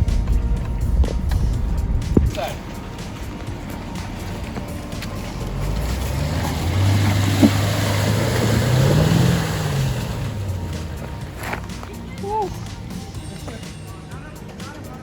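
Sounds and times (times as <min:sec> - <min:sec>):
vehicle engine running at low revs: 0:00.0 - 0:14.4.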